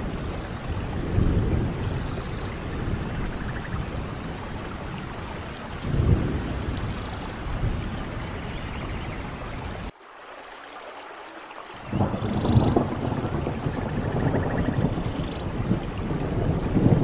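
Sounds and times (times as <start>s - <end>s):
thunder rumbling: 0.0s - 9.9s, 11.8s - 17.0s
steady rain: 0.0s - 17.0s.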